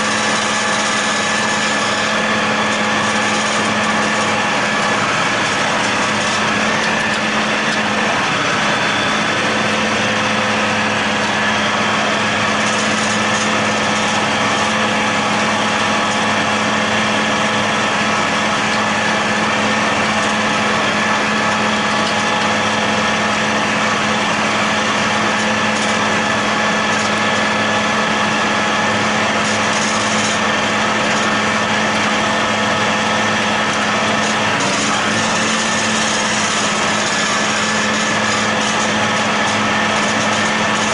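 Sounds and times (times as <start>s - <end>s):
tractor and mower droning: 0.0s - 40.9s.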